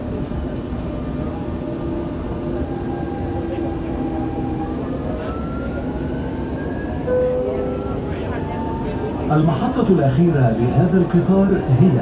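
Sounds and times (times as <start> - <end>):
train running with motor whine: 0.0 - 12.0.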